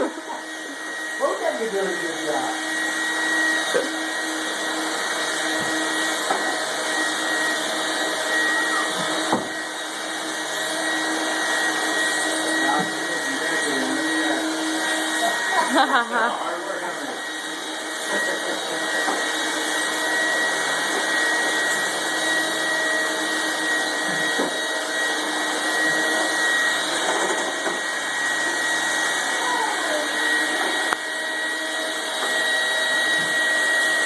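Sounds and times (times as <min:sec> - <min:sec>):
vacuum cleaners running: 0:00.0 - 0:34.0.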